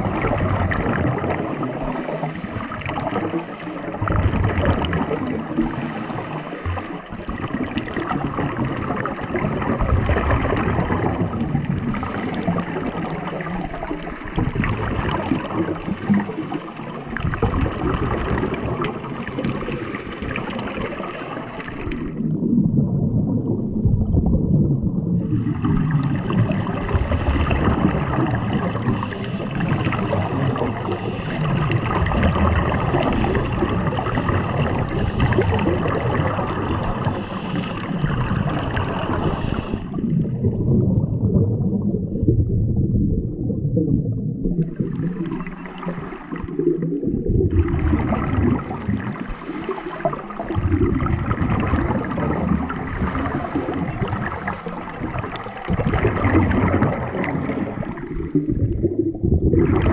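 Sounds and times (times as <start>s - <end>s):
regulator bubbles gurgling: 0.0s - 59.9s
underwater rush of water: 0.0s - 59.9s.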